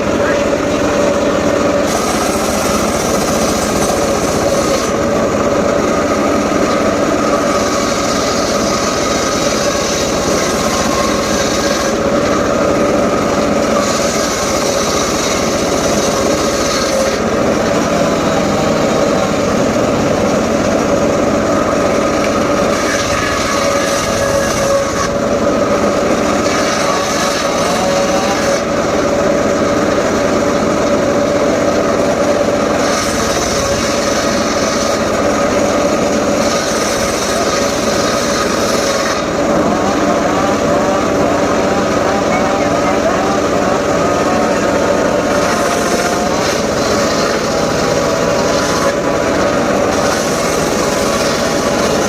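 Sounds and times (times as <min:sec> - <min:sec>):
circular saw running: 0:00.0 - 0:52.0
saw blade cutting wood: 0:00.0 - 0:52.0.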